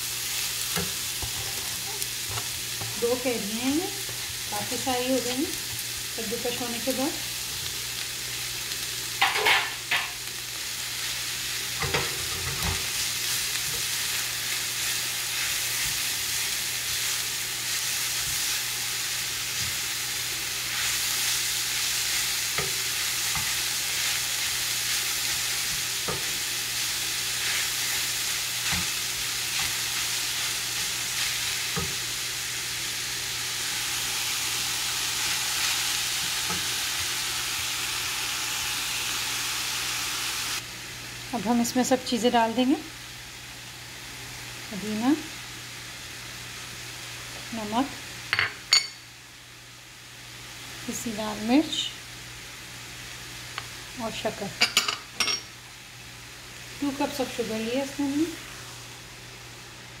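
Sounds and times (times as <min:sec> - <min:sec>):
food sizzling in hot oil: 0:00.0 - 1:00.0.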